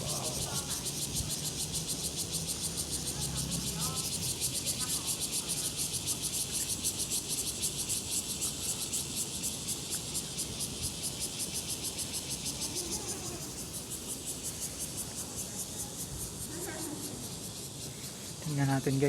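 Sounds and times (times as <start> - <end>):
insects buzzing in chorus: 0.0 - 19.0.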